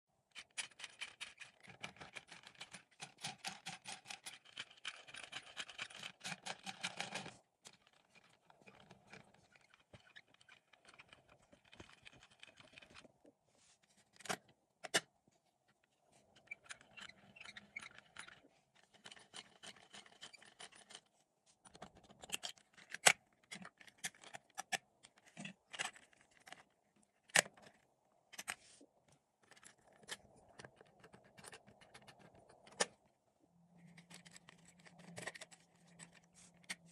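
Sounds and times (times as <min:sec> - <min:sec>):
plastic parts clicking and rattling: 0:00.3 - 0:13.3, 0:14.0 - 0:15.1, 0:15.7 - 0:33.1, 0:33.7 - 0:36.9
plastic parts scraping: 0:00.3 - 0:15.1, 0:15.7 - 0:33.1, 0:33.7 - 0:36.9.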